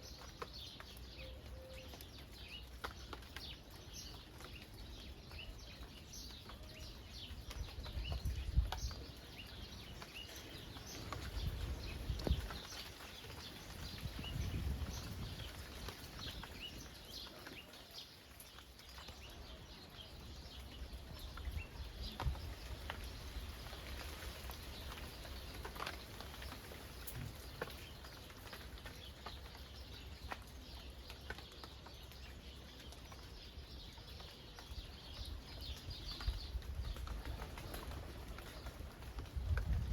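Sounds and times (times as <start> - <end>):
birds chirping: 0.0 - 39.9
rain pattering: 0.0 - 39.9.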